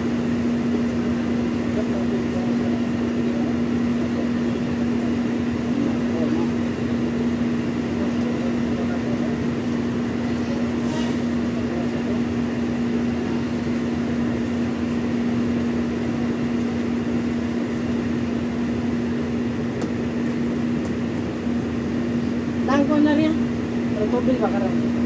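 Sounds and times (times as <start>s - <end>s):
bus engine and air conditioning hum: 0.0s - 25.0s.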